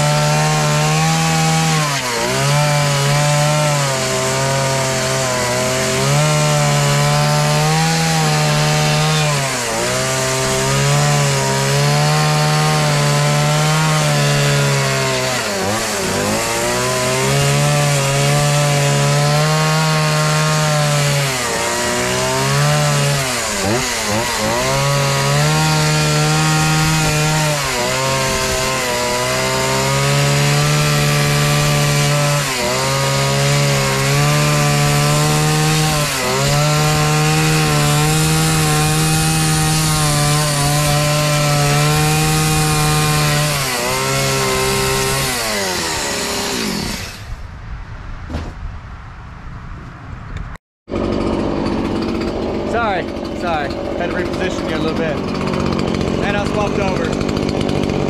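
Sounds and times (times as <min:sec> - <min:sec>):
chainsaw cutting wood: 0:00.0 - 0:47.4, 0:50.9 - 0:58.0.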